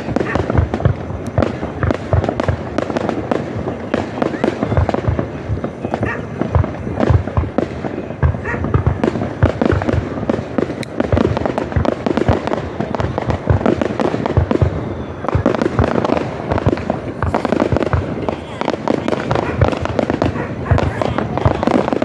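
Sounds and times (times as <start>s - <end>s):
fireworks bangs and booms: 0.0s - 22.0s.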